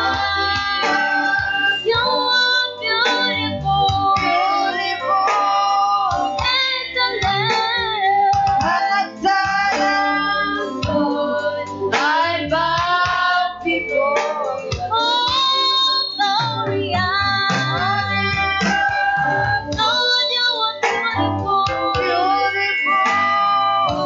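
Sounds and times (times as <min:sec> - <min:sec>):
instrumental backing with guitar: 0:00.0 - 0:24.0
woman singing: 0:00.0 - 0:24.0.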